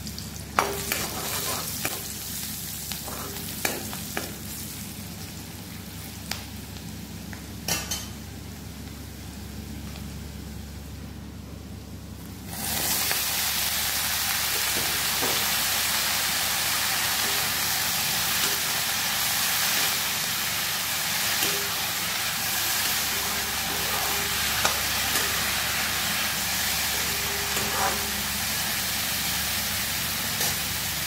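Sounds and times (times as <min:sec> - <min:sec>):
leaves sizzling in hot oil: 0:00.0 - 0:06.4, 0:12.5 - 0:31.0.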